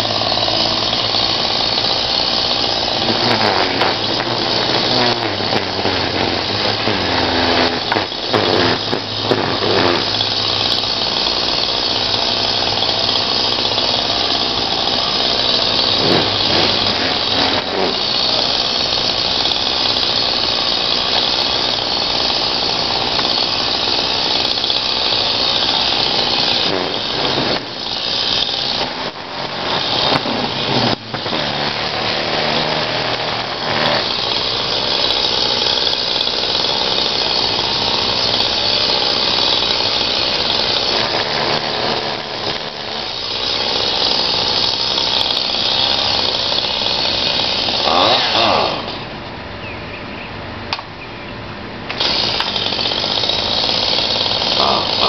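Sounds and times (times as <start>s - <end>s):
chainsaw cutting wood: 0.0s - 49.3s, 51.9s - 55.0s.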